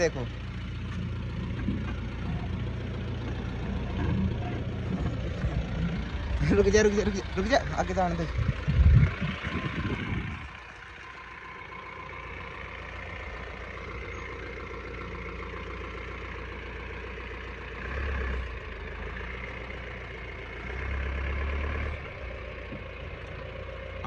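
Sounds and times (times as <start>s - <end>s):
diesel engine running at low revs: 0.0s - 24.0s.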